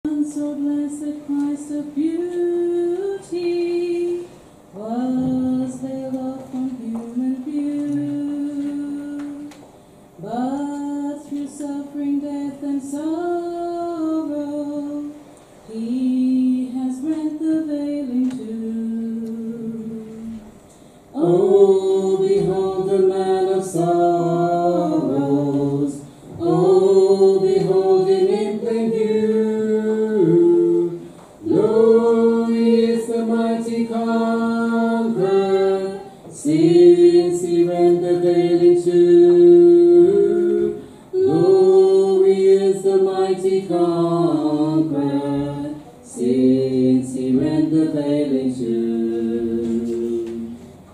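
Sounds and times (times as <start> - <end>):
man and woman singing unaccompanied: 0.0 - 50.9.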